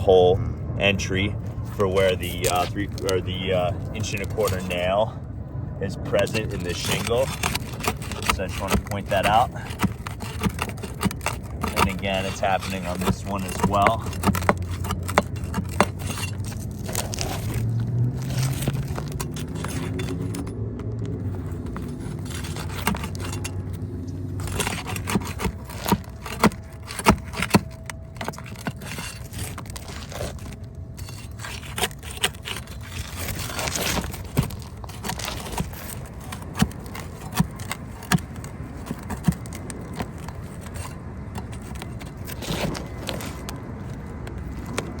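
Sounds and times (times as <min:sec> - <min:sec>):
low hum: 0:00.0 - 0:45.0
hand tool scraping shingles: 0:00.1 - 0:05.2, 0:05.8 - 0:45.0.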